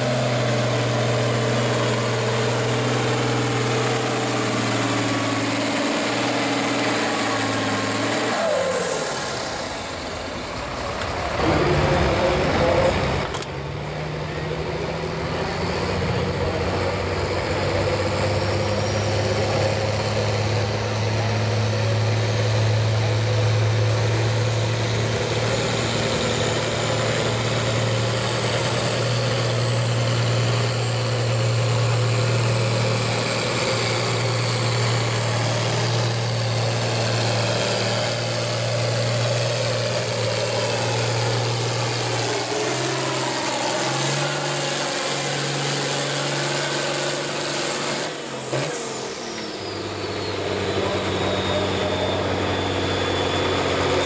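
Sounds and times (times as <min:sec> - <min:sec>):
tractor engine running hard: 0:00.0 - 0:54.0.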